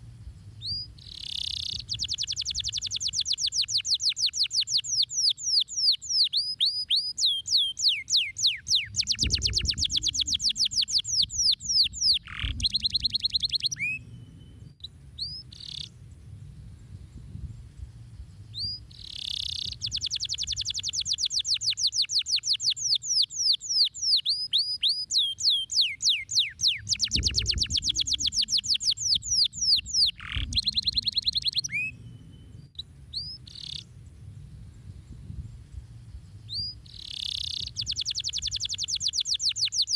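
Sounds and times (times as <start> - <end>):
canary singing trills: 0.6 - 16.0, 18.3 - 34.0, 36.2 - 39.9.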